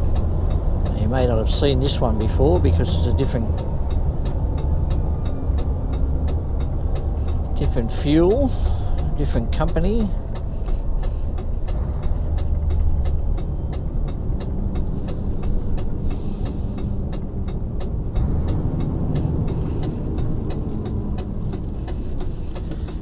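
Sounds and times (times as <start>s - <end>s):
truck engine low rumble: 0.0s - 23.0s
turn indicator ticking: 0.0s - 23.0s.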